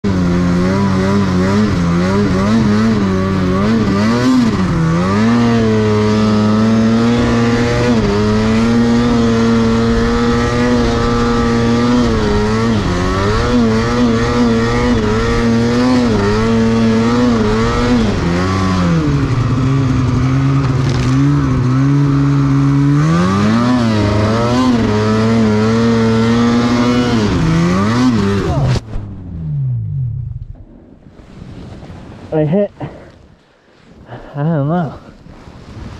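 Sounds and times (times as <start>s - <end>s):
snowmobile engine revving: 0.0s - 33.1s.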